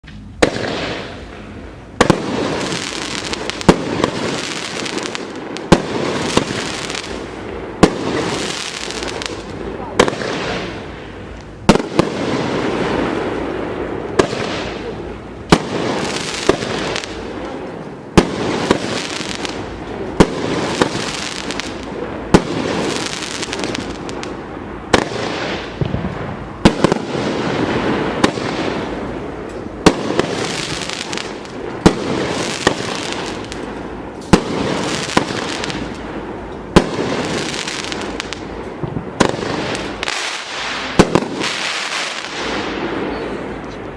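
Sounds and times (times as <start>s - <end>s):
firework bangs: 0.0s - 43.9s
hissing spray of fireworks: 0.0s - 43.9s.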